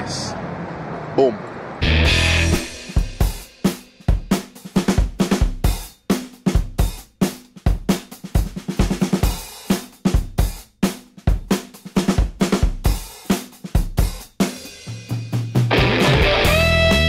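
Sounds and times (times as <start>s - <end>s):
drum kit beat: 1.8s - 17.0s.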